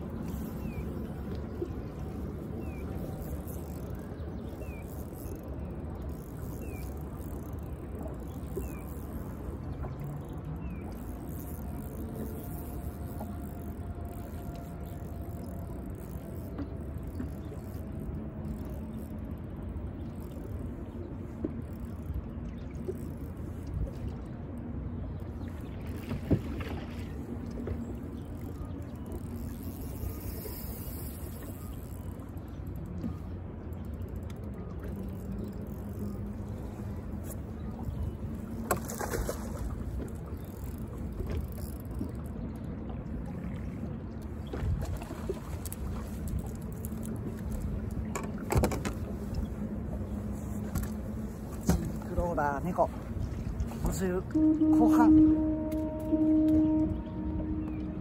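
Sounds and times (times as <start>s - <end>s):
faint motor hum: 0.0s - 58.0s
water noise: 0.0s - 58.0s
wind rumble on microphone: 0.0s - 58.0s.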